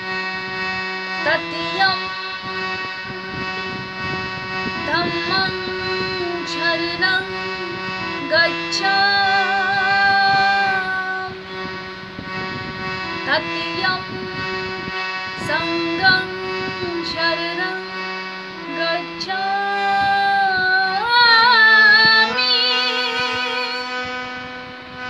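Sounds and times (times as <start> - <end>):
held accompaniment notes: 0.0 - 25.0
woman singing devotional song: 1.0 - 24.6.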